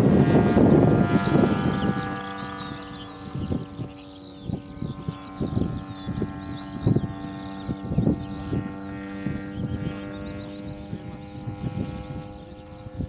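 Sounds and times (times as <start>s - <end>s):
propeller aircraft engine droning: 0.0s - 13.0s
wind gusts on microphone: 0.0s - 13.0s.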